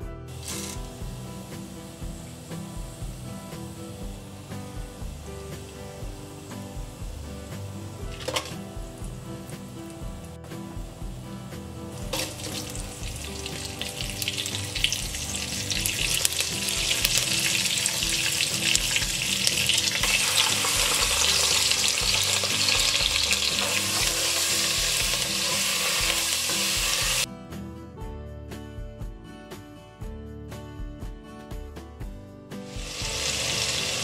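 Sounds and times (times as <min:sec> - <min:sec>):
chillies sizzling in hot oil: 0:00.3 - 0:10.8, 0:11.5 - 0:27.3, 0:32.7 - 0:34.0.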